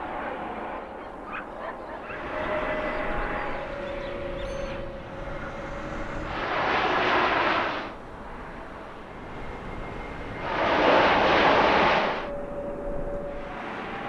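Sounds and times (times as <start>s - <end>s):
faint engine whine: 0.0s - 14.0s
jet engine roar: 0.0s - 14.0s.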